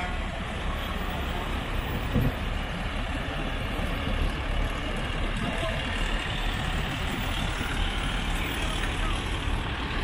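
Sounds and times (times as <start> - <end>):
heavy diesel truck engine: 0.0 - 10.0.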